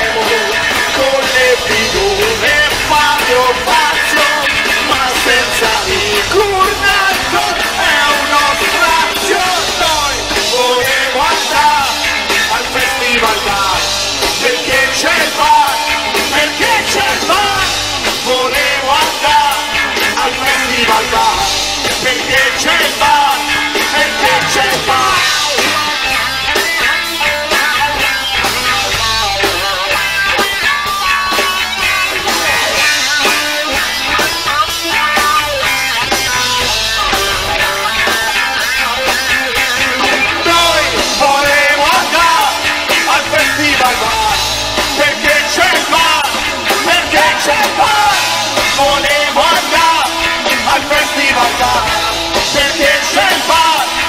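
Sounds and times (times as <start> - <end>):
live punk rock band: 0.0 - 54.0.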